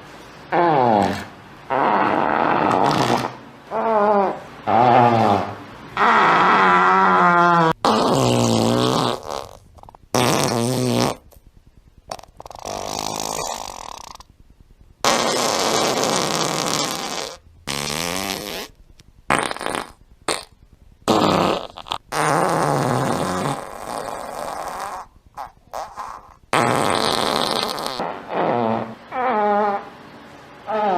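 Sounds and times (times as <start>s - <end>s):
fart sound effects: 0.6s - 14.4s, 15.0s - 29.9s.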